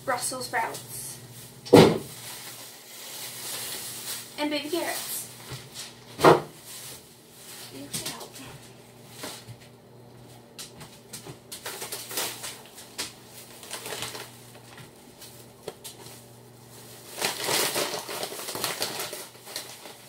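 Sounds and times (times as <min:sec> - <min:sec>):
plastic bag rustling: 0:00.3 - 0:09.7, 0:11.2 - 0:20.0.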